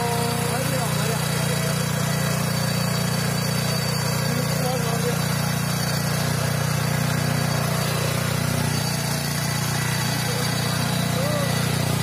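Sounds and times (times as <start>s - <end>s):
petrol engine running steadily: 0.0s - 12.0s.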